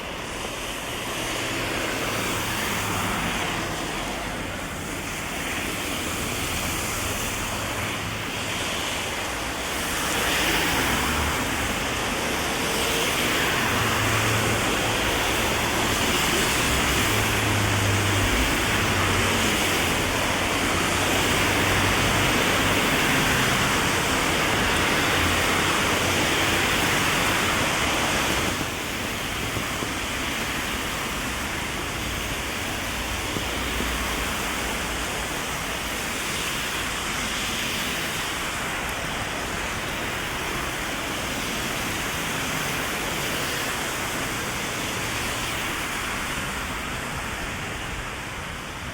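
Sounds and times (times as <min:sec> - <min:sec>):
heavy rain on umbrella and street: 0:00.0 - 0:48.9.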